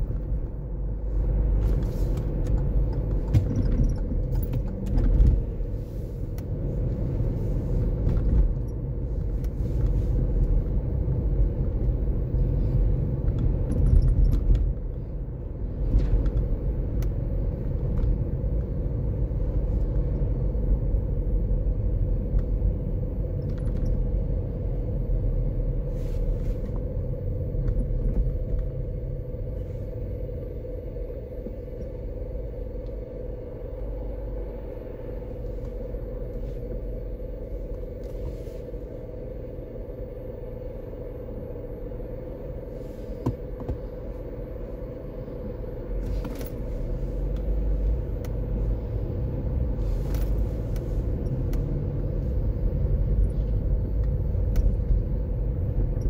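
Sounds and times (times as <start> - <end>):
car road and engine rumble: 0.0 - 56.0
steady hum: 0.0 - 56.0.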